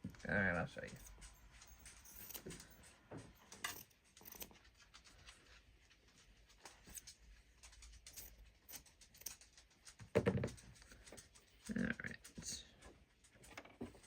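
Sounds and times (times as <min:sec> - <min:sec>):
faint clicks and rustling: 0:00.0 - 0:14.0.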